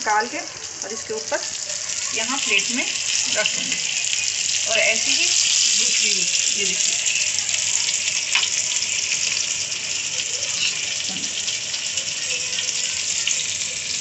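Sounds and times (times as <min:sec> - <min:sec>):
peppers deep-frying in hot oil: 0:00.0 - 0:14.0.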